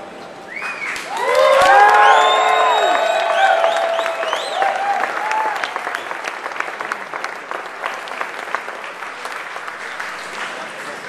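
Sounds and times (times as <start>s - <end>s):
crowd applauding: 0.5s - 11.0s.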